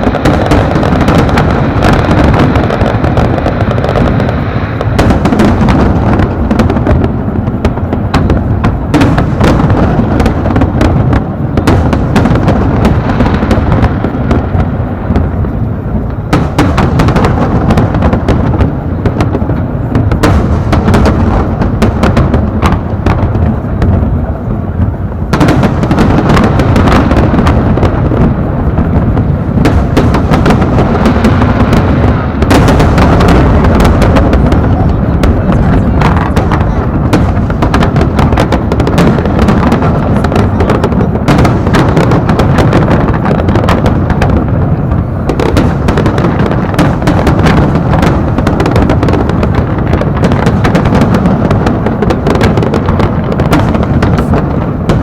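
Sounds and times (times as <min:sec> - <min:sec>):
firework bursts and bangs: 0:00.0 - 0:55.0.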